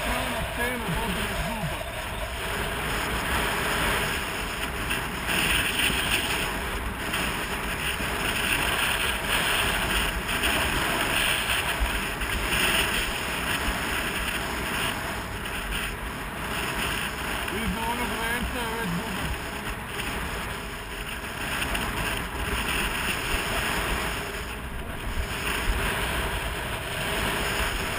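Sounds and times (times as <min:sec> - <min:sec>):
skis scraping on snow: 0:00.0 - 0:27.9
wind rushing over microphone: 0:00.0 - 0:27.9.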